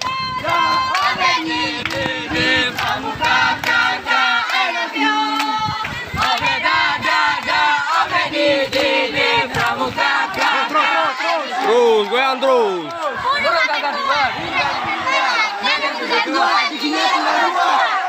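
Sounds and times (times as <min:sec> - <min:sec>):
group singing and shouting a chant: 0:00.0 - 0:18.0.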